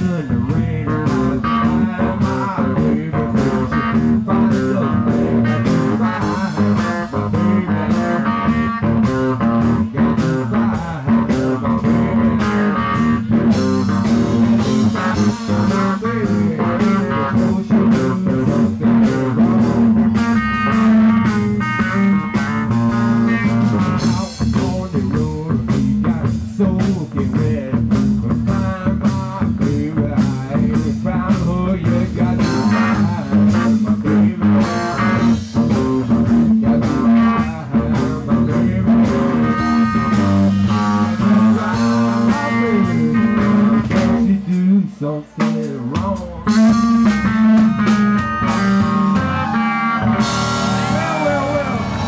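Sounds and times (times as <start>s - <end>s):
electric guitar lead: 0.0s - 44.7s, 45.4s - 52.0s
drum kit: 0.0s - 44.8s, 45.4s - 52.0s.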